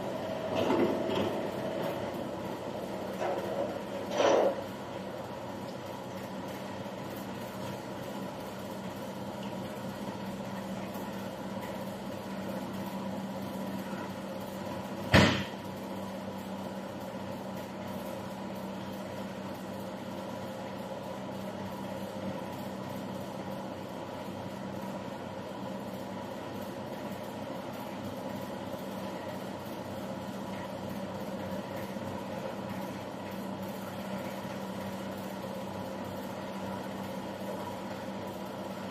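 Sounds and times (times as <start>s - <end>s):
machine mechanical hum: 0.0s - 38.9s.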